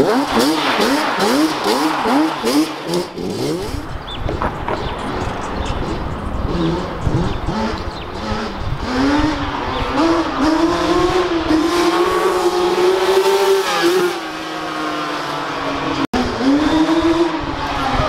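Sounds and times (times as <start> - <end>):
quad bike engine revving: 0.0 - 4.0, 5.7 - 18.0.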